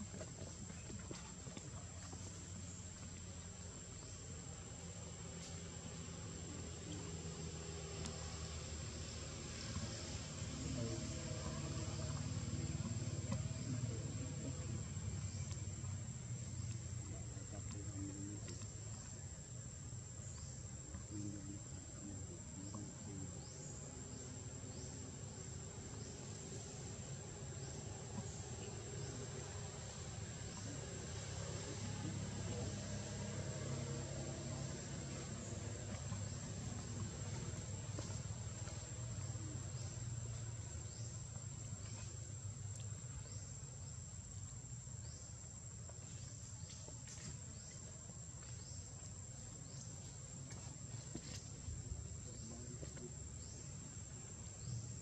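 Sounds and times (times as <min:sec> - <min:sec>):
insects droning: 0:00.0 - 0:55.0
low outdoor rumble: 0:00.0 - 0:55.0.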